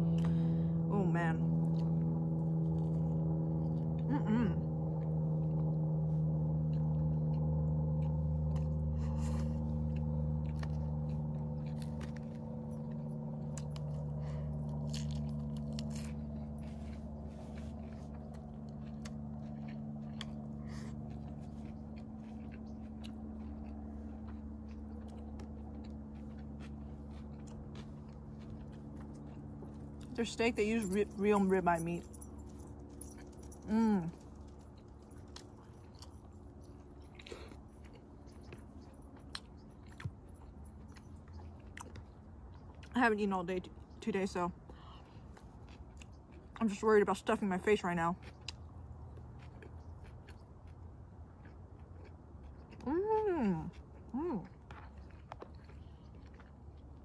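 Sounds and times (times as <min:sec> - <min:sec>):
low droning hum: 0:00.0 - 0:57.0
chewing and biting food: 0:01.5 - 0:57.0.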